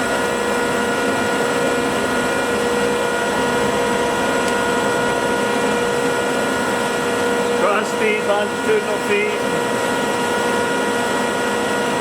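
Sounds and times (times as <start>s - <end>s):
high drive whine: 0.0s - 12.0s
lathe mechanical hum: 0.0s - 12.0s.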